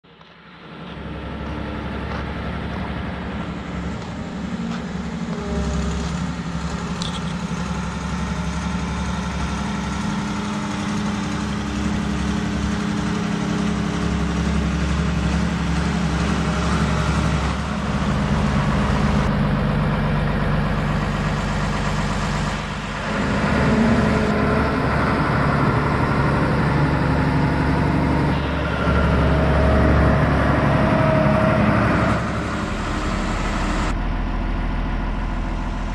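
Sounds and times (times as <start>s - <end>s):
road roller diesel engine: 0.0s - 35.9s.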